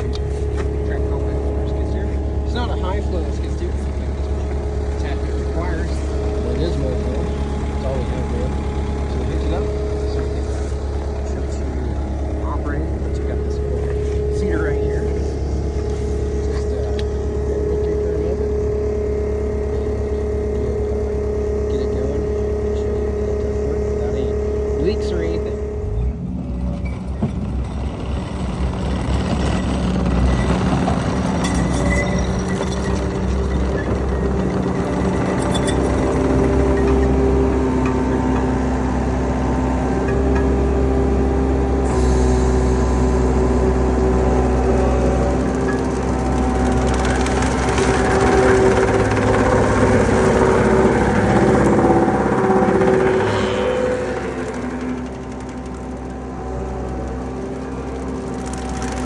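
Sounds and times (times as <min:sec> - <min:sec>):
mulching head mechanical noise: 0:00.0 - 0:59.0
skid steer engine running: 0:00.0 - 0:59.0.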